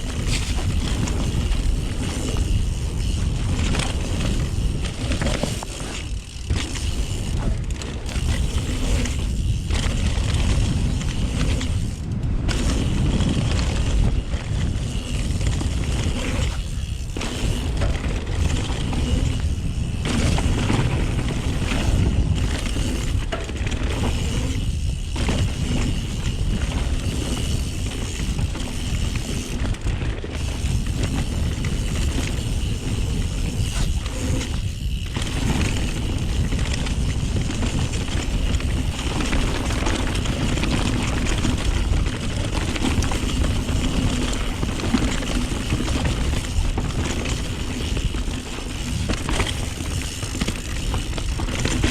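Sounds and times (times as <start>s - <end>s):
bike chain and frame rattling: 0.0s - 51.9s
bike tyres on dirt: 0.0s - 51.9s
wind rumble on microphone: 0.0s - 51.9s.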